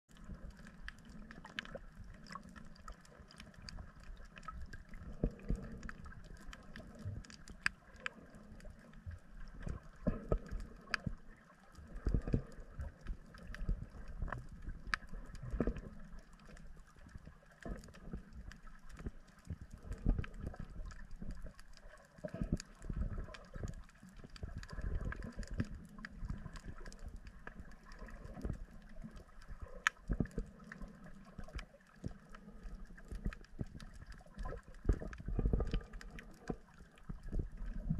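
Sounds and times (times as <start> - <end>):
muffled underwater rumbling: 0.0 - 37.9
faint sharp clicks: 0.1 - 37.9.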